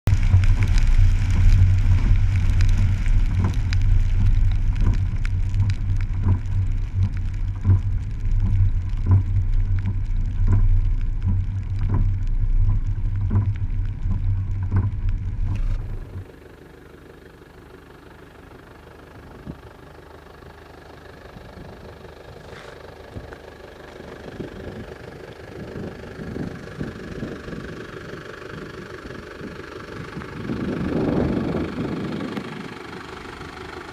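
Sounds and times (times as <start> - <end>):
engine rumble with regular knock: 0.0 - 33.9
faint rain patter: 0.0 - 33.9
quiet steady engine: 0.0 - 33.9.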